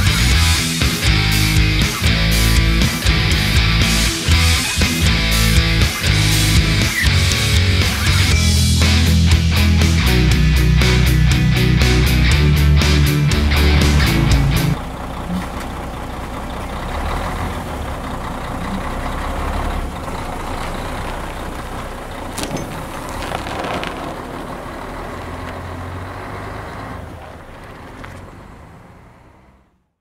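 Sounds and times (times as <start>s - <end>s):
heavy truck engine rumble: 0.0s - 29.8s
road noise: 0.0s - 30.0s.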